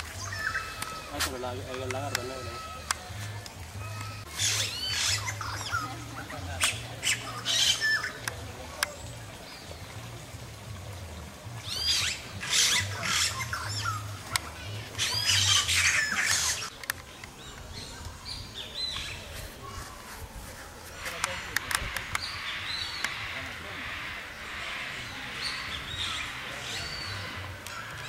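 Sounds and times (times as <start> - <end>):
birds squawking: 0.0 - 9.6, 11.6 - 16.8, 17.5 - 28.0.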